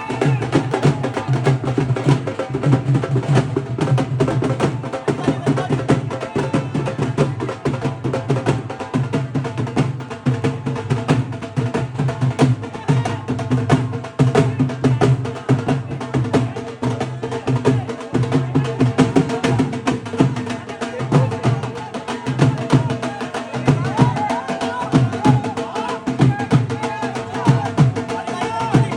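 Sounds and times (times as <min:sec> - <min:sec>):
fast drumming: 0:00.0 - 0:28.9.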